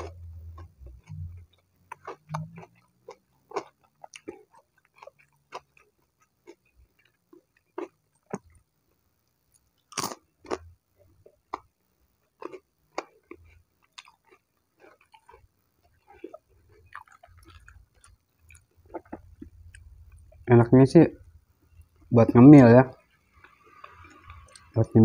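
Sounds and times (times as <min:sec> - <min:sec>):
crunchy chewing: 0:00.0 - 0:20.5.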